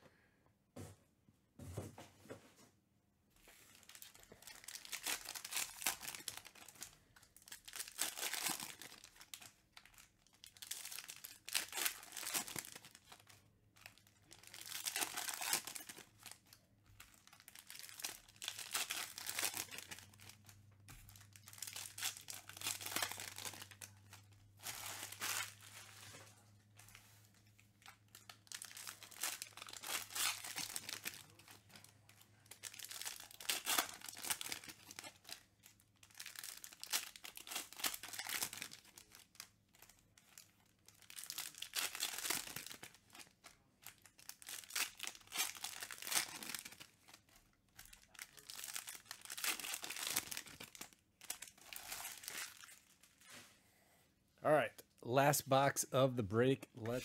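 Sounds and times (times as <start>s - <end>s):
plastic wrappers crinkling and tearing: 3.5s - 53.5s.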